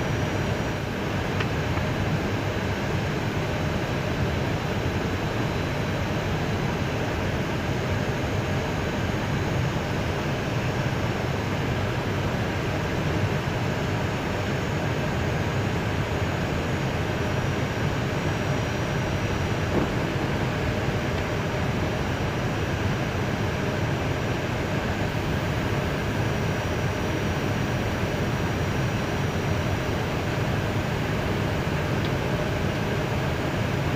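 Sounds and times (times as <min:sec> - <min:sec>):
air conditioning: 0:00.0 - 0:33.9
aircraft engines idling: 0:00.0 - 0:33.9.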